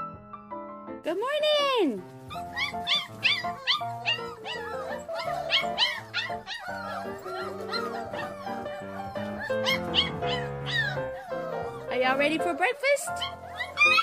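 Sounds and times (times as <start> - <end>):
upbeat background music: 0.0 - 14.0
dog giving high calls: 2.3 - 14.0.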